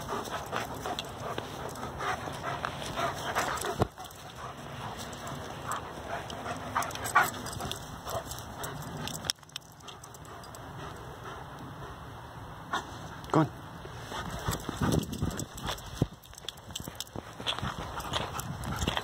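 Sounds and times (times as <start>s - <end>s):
dog panting: 0.0s - 12.1s, 14.0s - 19.0s.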